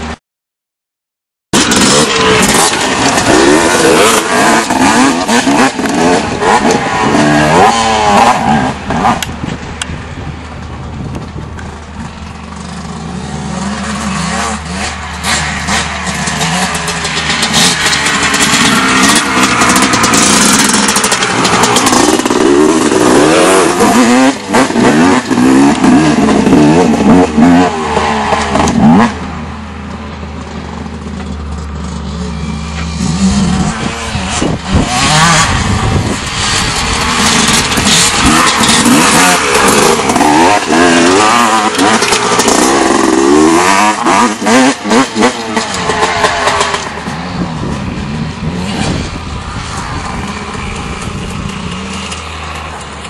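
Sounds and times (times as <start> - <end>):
dirt bike engines revving: 1.6 - 53.0.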